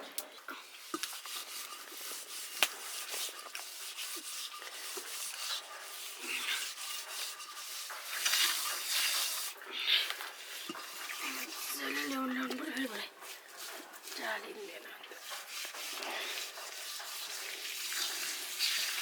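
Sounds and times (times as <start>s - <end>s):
scraping and rubbing: 0.5s - 19.0s.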